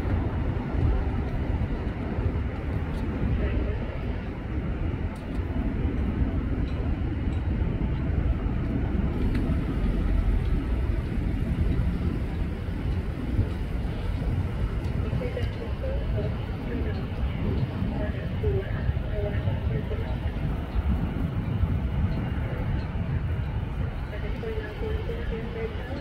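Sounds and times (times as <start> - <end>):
distant jet engines idling: 0.0 - 26.0.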